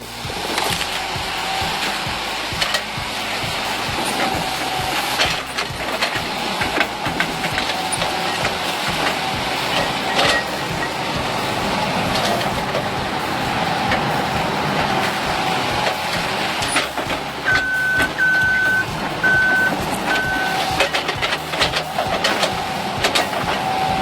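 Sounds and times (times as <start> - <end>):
heavy machine engine running: 0.0 - 24.0
backup alarm beeping: 2.8 - 22.6.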